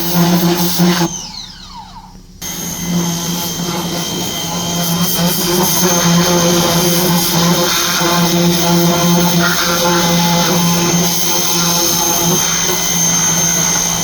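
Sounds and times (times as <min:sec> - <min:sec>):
pressure washer motor whining: 0:00.0 - 0:14.0.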